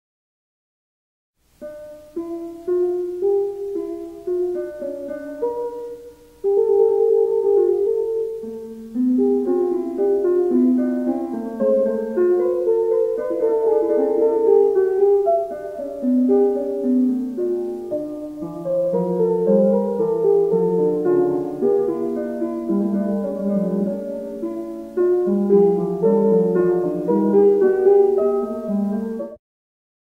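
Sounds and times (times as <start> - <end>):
solo piano piece: 1.4 - 29.4.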